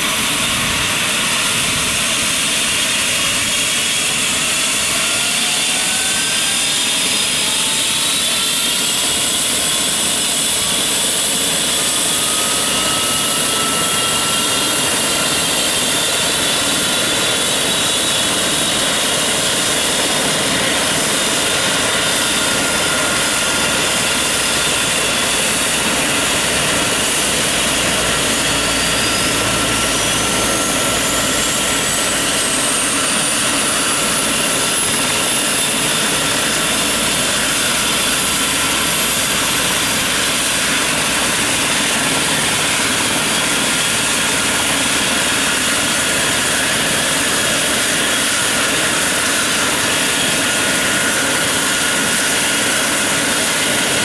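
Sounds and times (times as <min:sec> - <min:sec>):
helicopter turbine engines whining: 0:00.0 - 0:54.0.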